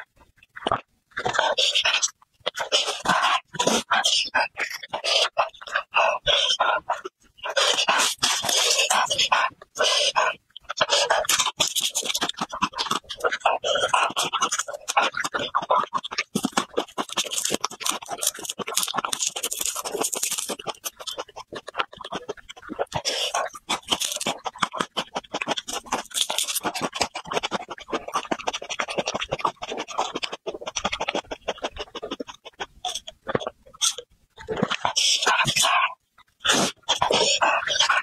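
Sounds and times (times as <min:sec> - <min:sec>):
crunchy chewing: 0:00.0 - 0:38.0
mouth clicks: 0:00.5 - 0:38.0.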